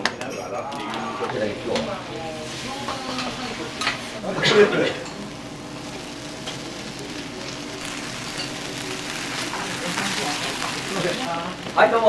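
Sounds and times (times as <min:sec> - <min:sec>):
food sizzling on griddle: 0:00.9 - 0:12.0.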